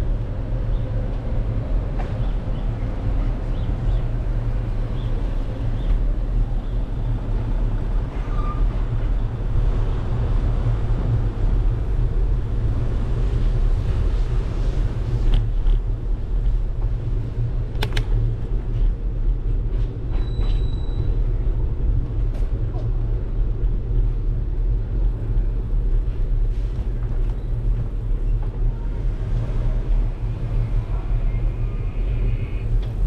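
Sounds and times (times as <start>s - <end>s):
road noise: 0.0s - 33.0s.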